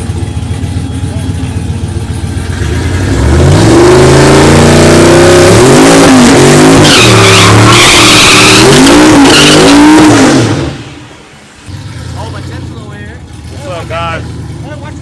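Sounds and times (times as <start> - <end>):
tires squealing: 0.0 - 15.0
truck engine revving: 0.0 - 15.0.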